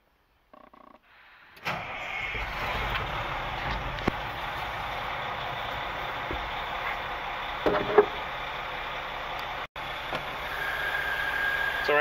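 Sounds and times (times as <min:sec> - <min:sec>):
diesel engine idling: 0:01.6 - 0:12.0.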